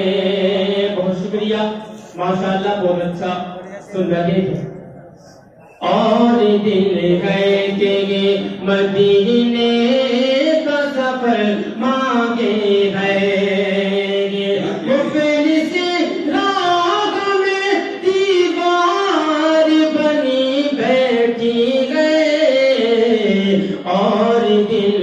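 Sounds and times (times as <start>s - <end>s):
man singing into microphone: 0.0s - 5.0s, 5.7s - 25.0s.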